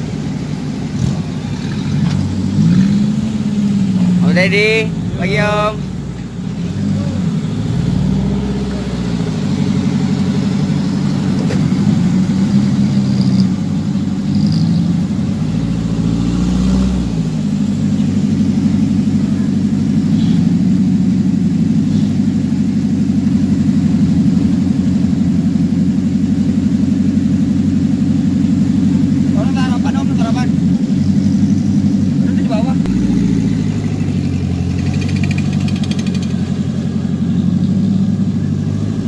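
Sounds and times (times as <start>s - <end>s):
off-road vehicle engines revving: 0.0s - 39.0s.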